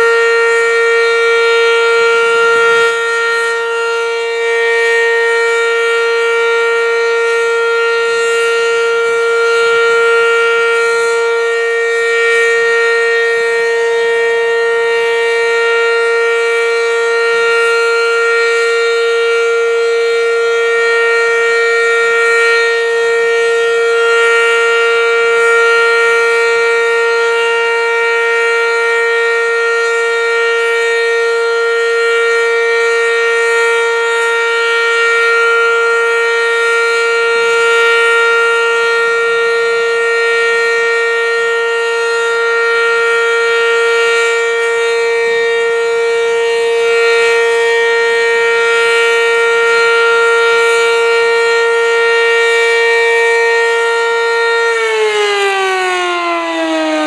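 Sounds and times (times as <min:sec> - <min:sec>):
siren steady tone: 0:00.0 - 0:57.0.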